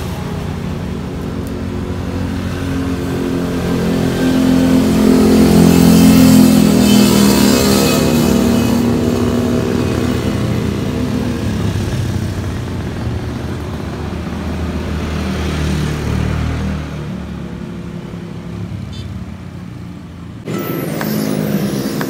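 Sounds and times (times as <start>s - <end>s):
motorbikes passing: 0.0s - 22.0s
traffic hum: 0.0s - 22.0s.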